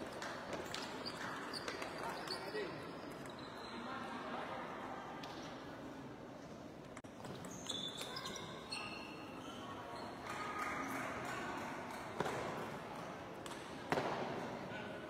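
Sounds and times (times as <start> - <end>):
sports hall hubbub: 0.0 - 15.0.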